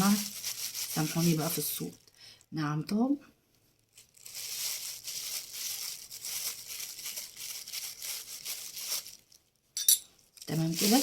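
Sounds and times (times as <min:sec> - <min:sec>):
plastic bag crinkling: 0:00.0 - 0:02.5, 0:03.6 - 0:09.6, 0:10.2 - 0:11.0.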